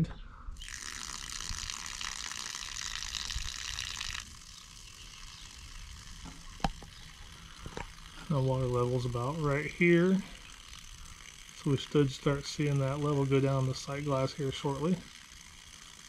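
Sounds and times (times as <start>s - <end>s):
water spraying from hose fitting: 0.6s - 16.0s.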